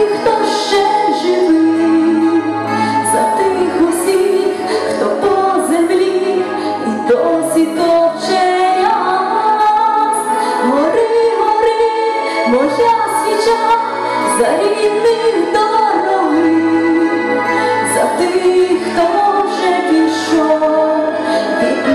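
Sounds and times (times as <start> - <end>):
woman singing into a microphone: 0.0 - 21.9.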